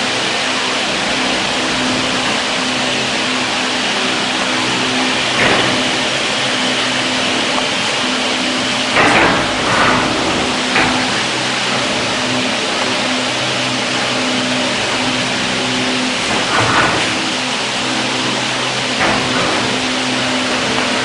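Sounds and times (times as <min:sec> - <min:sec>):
machine hum and hiss: 0:00.0 - 0:21.0.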